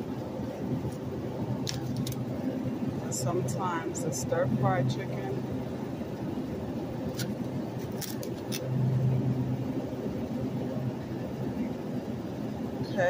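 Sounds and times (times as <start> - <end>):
refrigerator hum: 0.0 - 13.0.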